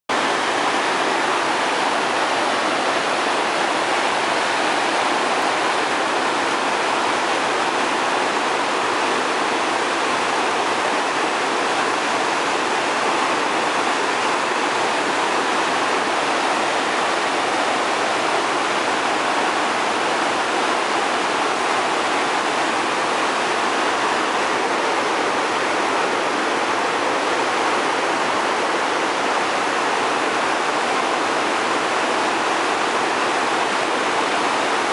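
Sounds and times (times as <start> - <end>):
floodwater rushing in rapids: 0.1 - 34.9.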